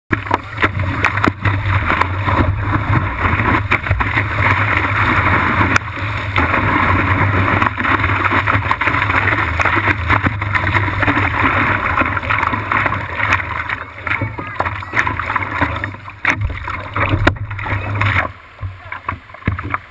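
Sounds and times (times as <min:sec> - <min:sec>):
whitewater rushing and splashing: 0:00.1 - 0:19.9.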